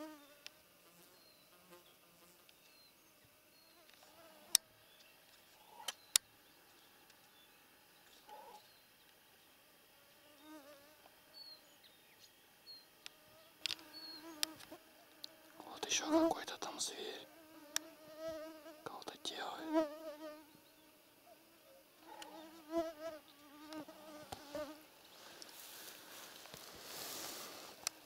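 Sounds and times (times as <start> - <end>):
flying insects buzzing: 0.0 - 6.8, 9.7 - 11.7, 12.8 - 28.0.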